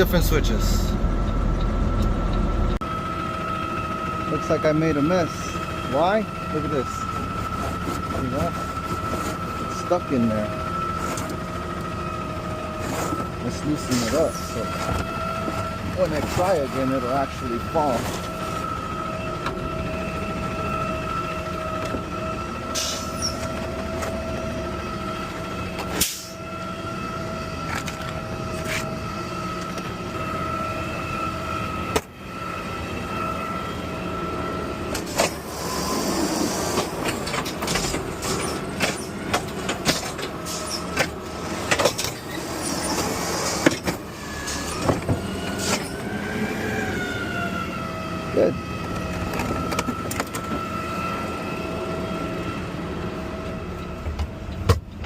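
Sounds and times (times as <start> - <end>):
garbage truck whine: 0.0 - 55.0.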